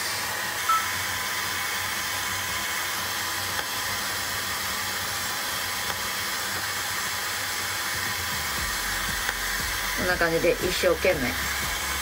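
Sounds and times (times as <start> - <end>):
cooling fan whirring: 0.0 - 12.0.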